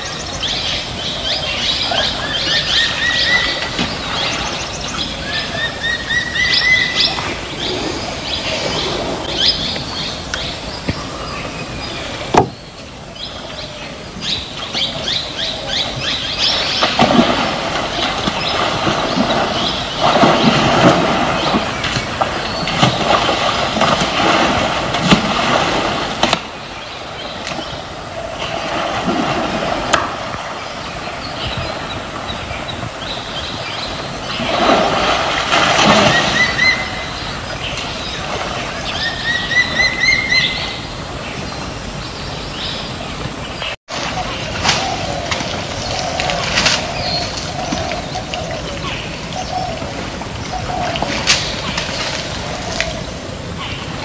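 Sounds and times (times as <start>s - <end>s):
birds chirping: 0.0s - 24.4s, 30.4s - 54.0s
rushing outdoor noise: 0.0s - 54.0s.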